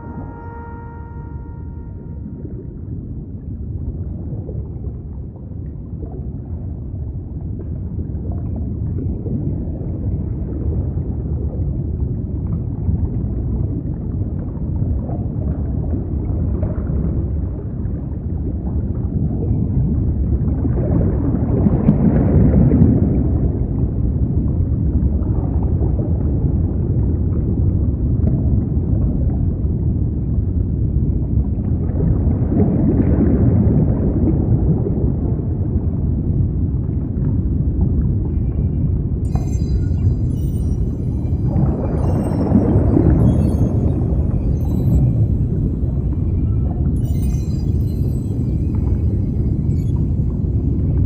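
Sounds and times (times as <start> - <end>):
low deep rumbling ambience: 0.0 - 51.0.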